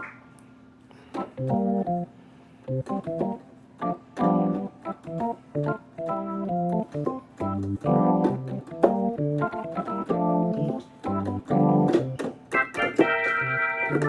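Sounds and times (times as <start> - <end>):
synthesizer organ chords: 1.2 - 14.0.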